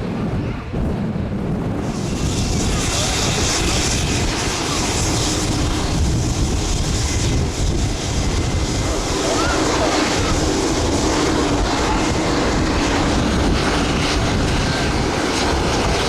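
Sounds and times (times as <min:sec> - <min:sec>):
turboprop plane passing: 0:00.0 - 0:16.0.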